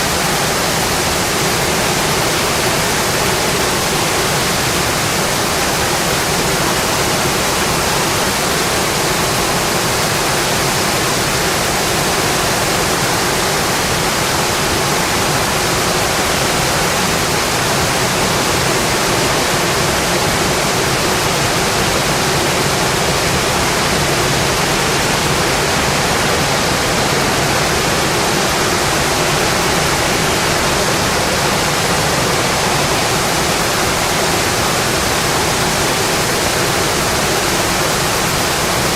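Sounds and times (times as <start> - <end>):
rain on a windowpane: 0.0 - 38.9.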